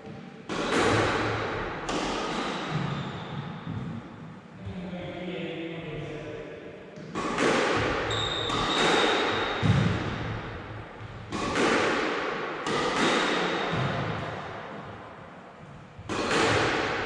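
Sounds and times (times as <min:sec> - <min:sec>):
squash ball hits echoing: 0:00.0 - 0:04.3, 0:07.0 - 0:17.0.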